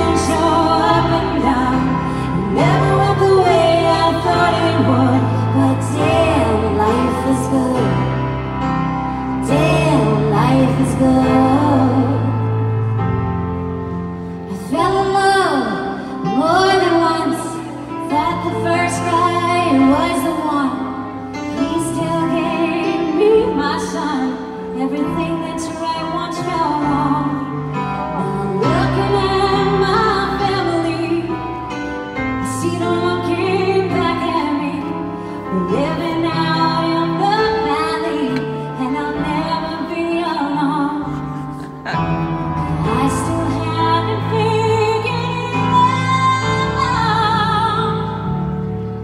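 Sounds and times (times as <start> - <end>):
piano accompaniment: 0.0 - 49.0
woman singing ballad: 0.0 - 49.0.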